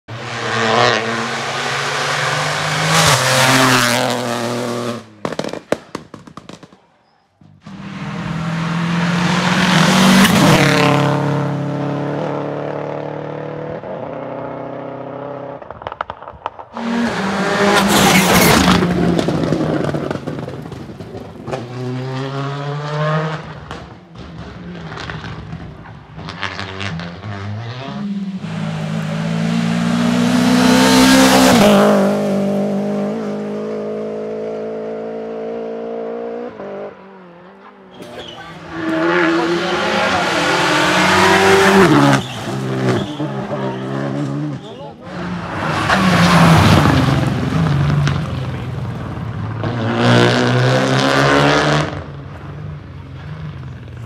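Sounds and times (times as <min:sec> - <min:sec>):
rally cars passing at full throttle: 0:00.1 - 0:06.8, 0:07.4 - 0:54.0.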